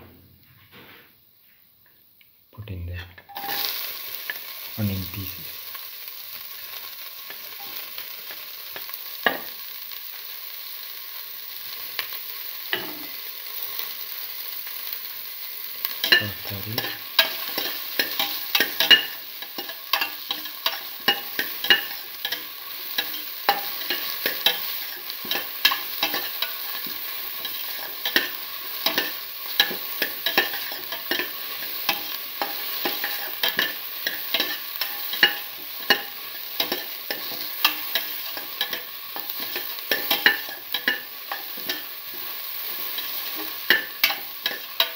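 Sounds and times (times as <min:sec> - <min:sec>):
meat sizzling in a metal pot: 0:02.7 - 0:44.9.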